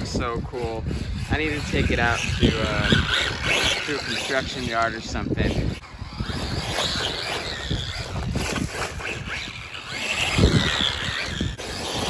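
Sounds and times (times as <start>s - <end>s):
rc truck electric motor: 0.0s - 12.0s
tyres churning over dirt: 0.0s - 12.0s.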